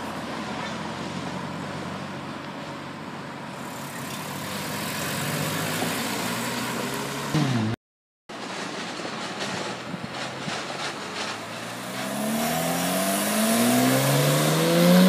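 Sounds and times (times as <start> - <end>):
car engines running: 0.0 - 7.8, 9.0 - 15.0.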